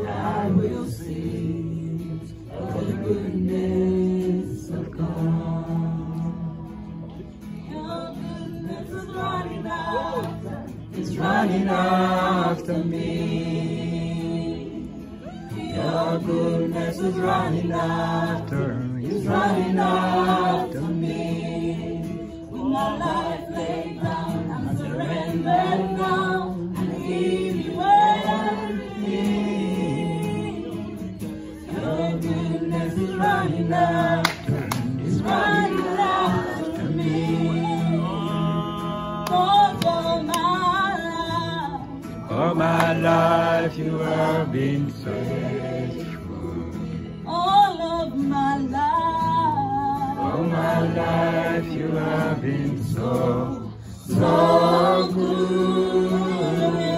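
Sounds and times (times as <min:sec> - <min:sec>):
group singing gospel song: 0:00.0 - 0:07.0, 0:07.7 - 0:47.8, 0:48.4 - 0:56.9.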